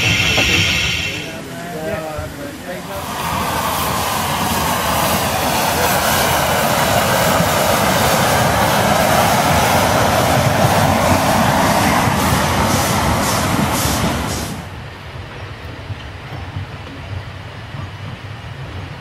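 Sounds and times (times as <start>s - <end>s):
locomotive exhaust beats: 0.0s - 19.0s
steam locomotives rushing steam: 0.0s - 19.0s.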